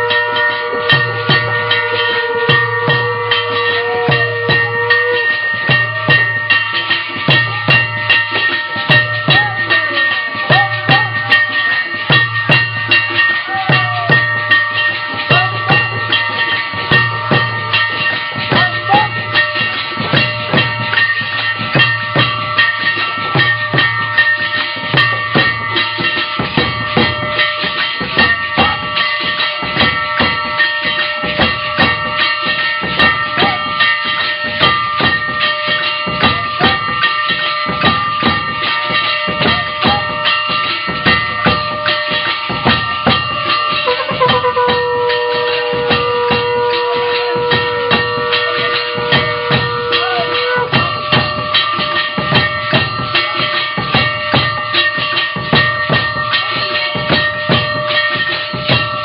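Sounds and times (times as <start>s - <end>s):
ringing high tones: 0.0s - 59.0s
steady drum beat: 0.0s - 59.0s.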